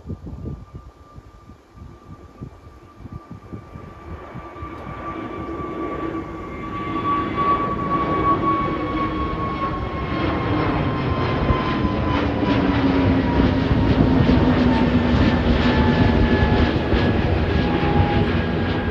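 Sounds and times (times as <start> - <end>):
jet engines roaring at takeoff: 0.0 - 18.9.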